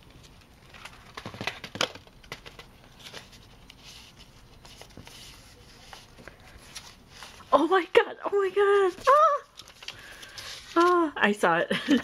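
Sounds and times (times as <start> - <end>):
paper rustling: 0.1 - 7.7, 8.7 - 11.1.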